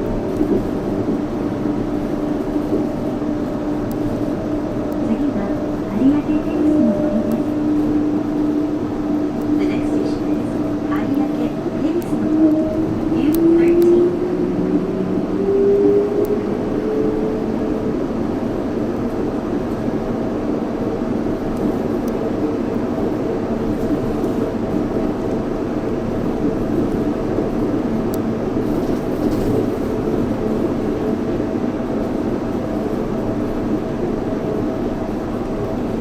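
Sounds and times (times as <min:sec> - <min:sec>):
steady hum: 0:00.0 - 0:33.0
train tyres rumbling on guideway: 0:00.0 - 0:36.0.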